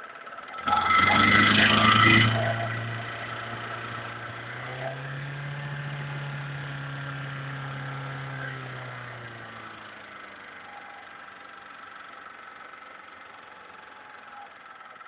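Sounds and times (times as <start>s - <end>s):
car engine idling with knock: 0.0s - 15.0s.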